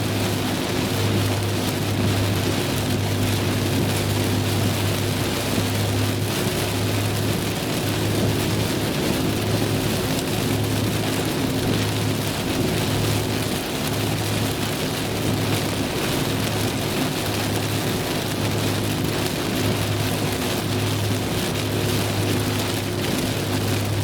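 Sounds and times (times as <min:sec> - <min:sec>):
rain on a car: 0:00.0 - 0:24.0.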